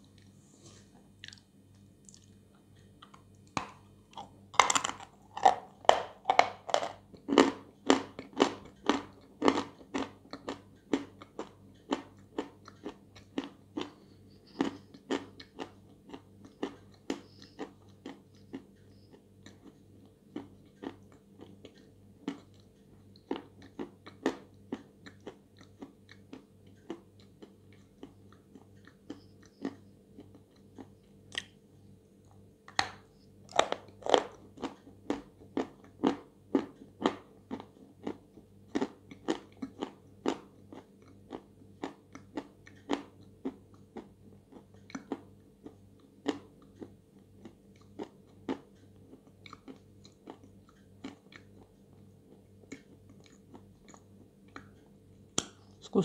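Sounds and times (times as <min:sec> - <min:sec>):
crunching and chewing chalk: 0:00.0 - 0:31.6, 0:32.2 - 0:55.6.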